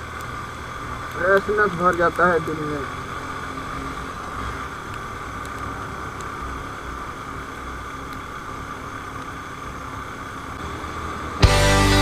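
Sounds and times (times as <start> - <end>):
engine hum: 0.0 - 12.0.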